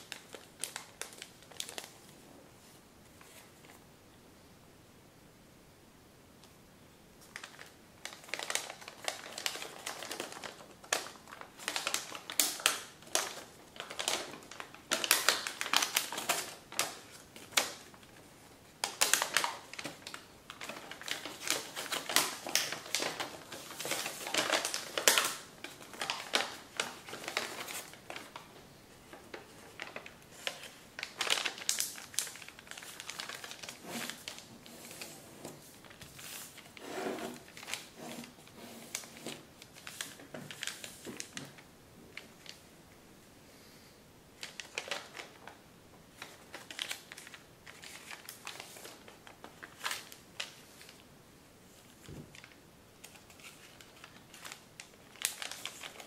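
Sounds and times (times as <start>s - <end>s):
paper crinkling while folded: 0.0s - 2.2s, 7.2s - 42.7s, 44.4s - 51.1s, 51.7s - 56.0s.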